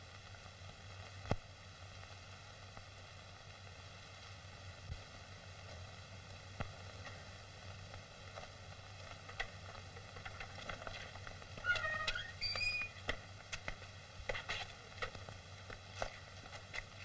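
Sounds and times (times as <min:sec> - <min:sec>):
film soundtrack hiss and hum: 0:00.0 - 0:17.0
crackling pops: 0:00.8 - 0:02.9, 0:04.2 - 0:17.0.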